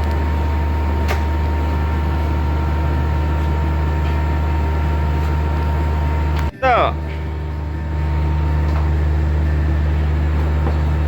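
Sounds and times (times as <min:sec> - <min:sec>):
air conditioner humming: 0:00.0 - 0:11.0
thin steady whine: 0:00.0 - 0:11.0.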